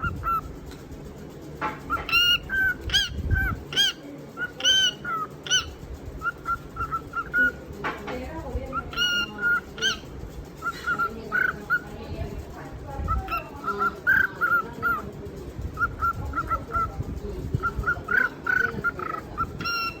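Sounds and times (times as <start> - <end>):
birds honking: 0.0 - 20.0.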